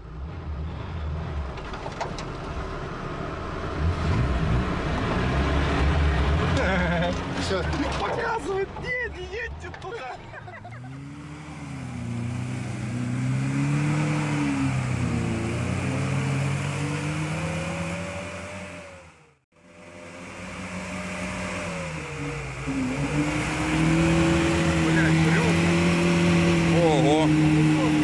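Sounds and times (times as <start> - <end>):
car engines revving under load: 0.0 - 28.0.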